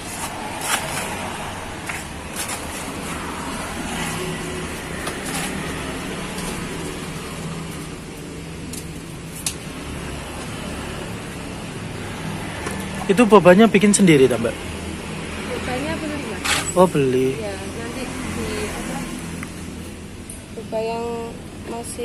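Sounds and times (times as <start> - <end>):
roadside traffic noise: 0.0 - 22.0
vehicle engine humming: 0.0 - 22.0.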